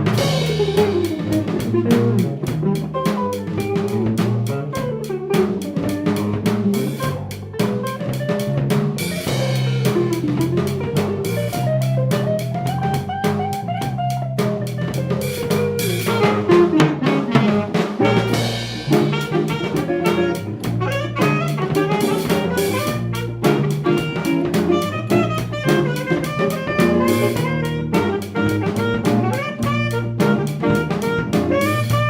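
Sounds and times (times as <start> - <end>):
bass line: 0.0 - 32.0
drum kit with rimshots: 0.0 - 32.0
horn melody: 0.0 - 32.0.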